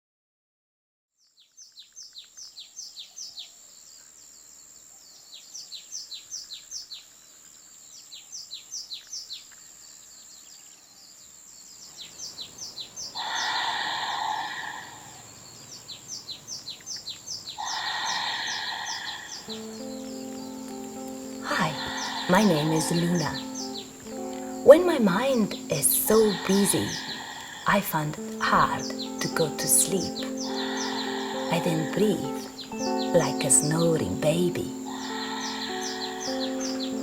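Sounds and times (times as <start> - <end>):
birds chirping: 1.2 - 37.0.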